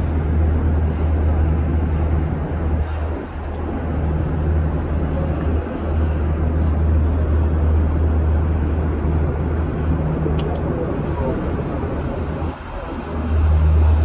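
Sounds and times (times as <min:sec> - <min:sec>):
cable car hum and rumble: 0:00.0 - 0:14.0.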